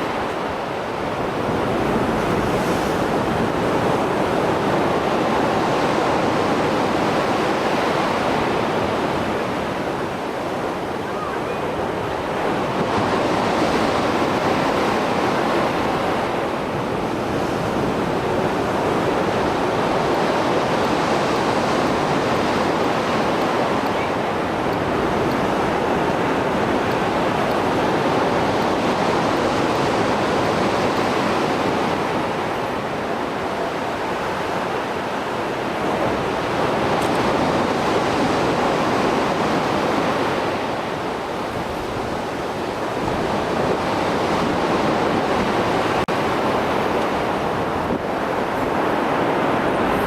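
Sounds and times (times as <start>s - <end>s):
sea waves breaking on shore: 0.0s - 50.0s.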